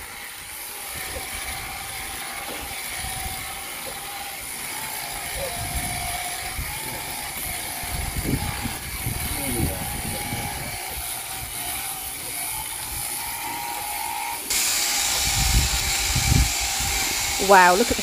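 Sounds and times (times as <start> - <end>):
sheep shearing handpiece humming: 0.0 - 18.0.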